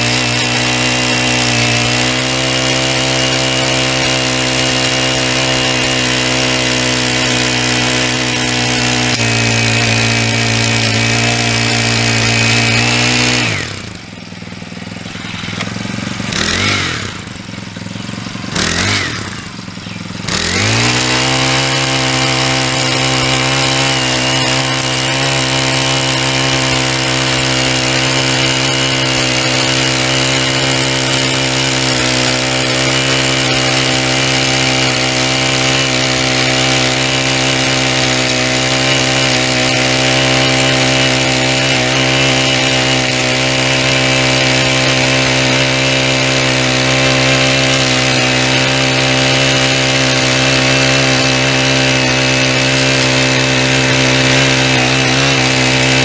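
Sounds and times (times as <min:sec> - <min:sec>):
small cultivator engine revving: 0:00.0 - 0:56.0.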